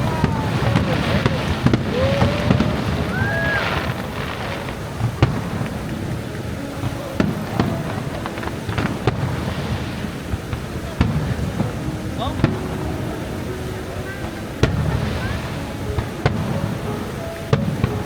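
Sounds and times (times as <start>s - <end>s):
rising firework whistle: 0.0s - 17.9s
background rumble: 0.0s - 18.0s
fireworks bangs: 0.0s - 18.0s.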